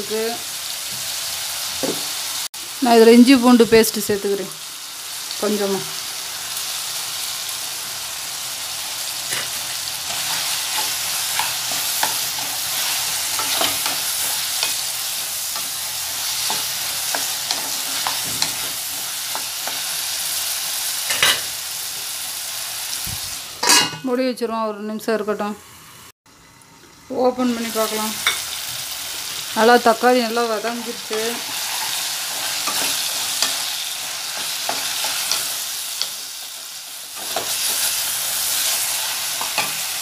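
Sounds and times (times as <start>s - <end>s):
food sizzling in oil: 0.0s - 40.0s.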